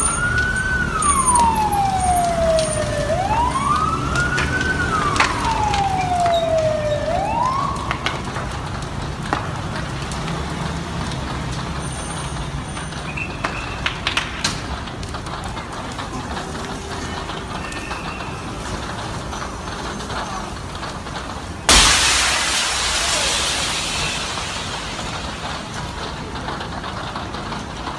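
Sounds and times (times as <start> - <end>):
emergency vehicle siren wailing: 0.0 - 27.9
low rumble of street traffic: 0.0 - 27.9.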